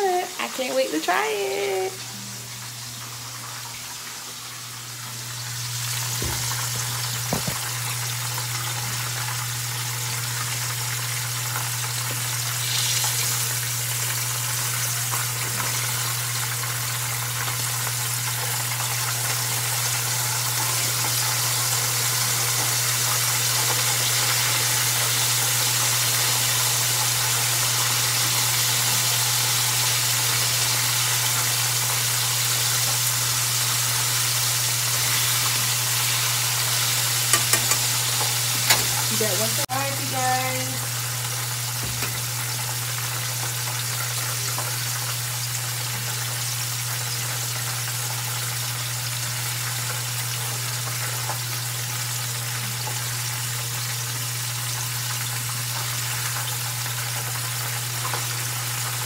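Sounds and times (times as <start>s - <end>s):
chicken frying in hot oil: 0.0s - 59.0s.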